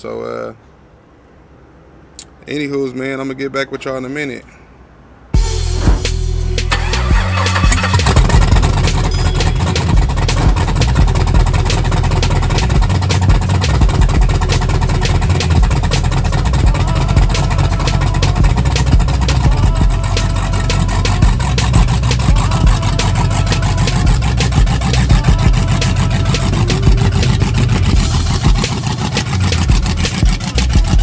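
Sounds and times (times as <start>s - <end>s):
loud vee eight engine idling: 5.4s - 31.0s.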